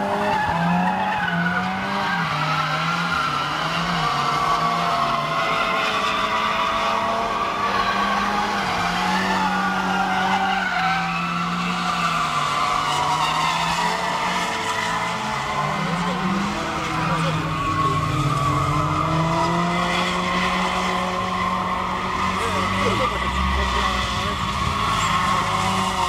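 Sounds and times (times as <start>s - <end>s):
car engines revving: 0.0s - 26.0s
tyres squealing on asphalt: 0.0s - 26.0s.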